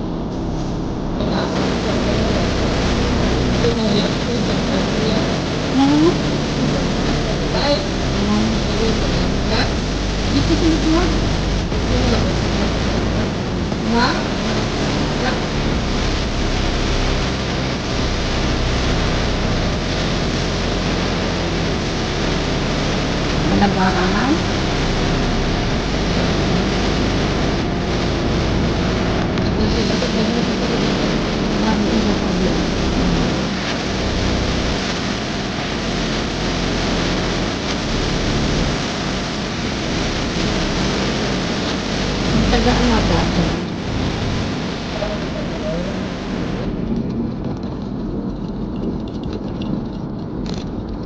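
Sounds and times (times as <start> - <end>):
low rumble: 0.0 - 51.0.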